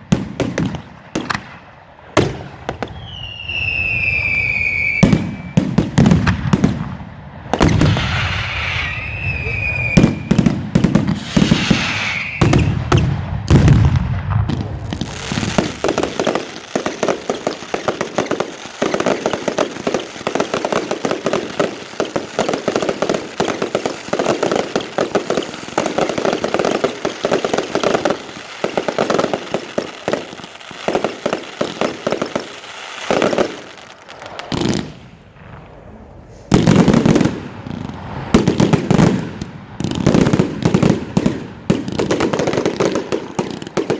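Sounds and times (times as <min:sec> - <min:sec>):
deep firework bangs: 0:00.0 - 0:43.9
fireworks bangs and crackling: 0:00.0 - 0:43.9.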